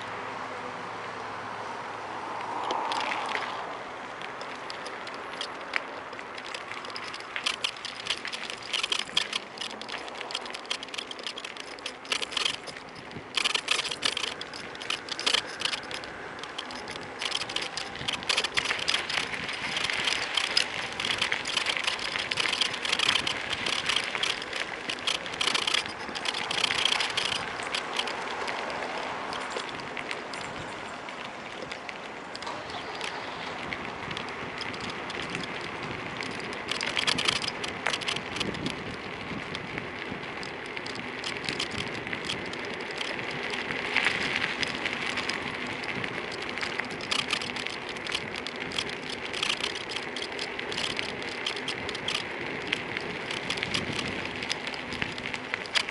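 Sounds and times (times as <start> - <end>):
tyre and wind noise: 1.3 - 55.9
phone holder rattling and clicking: 4.2 - 30.9, 34.1 - 39.7, 40.4 - 55.9.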